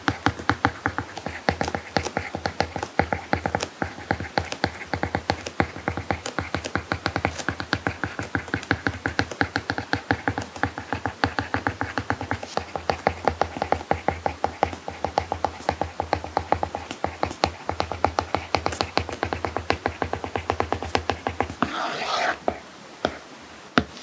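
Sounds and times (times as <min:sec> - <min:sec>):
stylus tapping on screen: 0:00.0 - 0:23.2.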